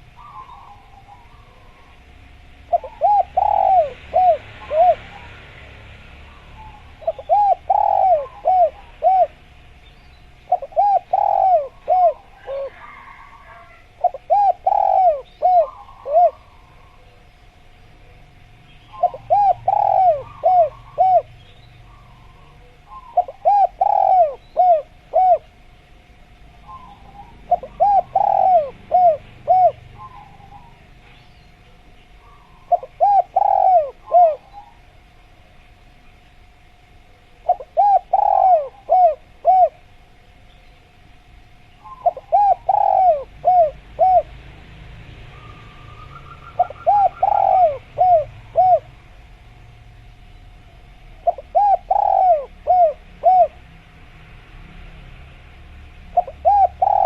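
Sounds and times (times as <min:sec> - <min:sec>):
dove cooing: 0:00.0 - 0:09.7, 0:10.4 - 0:25.7, 0:26.6 - 0:35.0, 0:37.3 - 0:40.4, 0:41.8 - 0:44.7, 0:45.3 - 0:49.6, 0:50.7 - 0:53.7, 0:56.1 - 0:57.0
small birds chirping: 0:00.0 - 0:36.5, 0:37.2 - 0:44.4, 0:45.2 - 0:53.6, 0:56.0 - 0:57.0.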